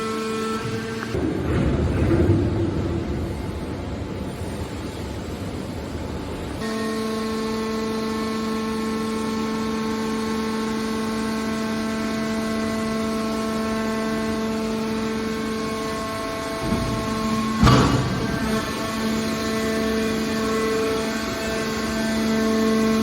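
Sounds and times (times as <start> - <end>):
hydraulic power unit whining: 0.0 - 1.9, 2.6 - 23.0
machine noise: 0.0 - 23.0.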